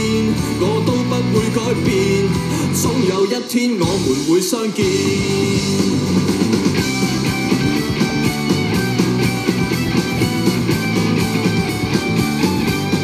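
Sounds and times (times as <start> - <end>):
guitar music through speaker: 0.0 - 13.0.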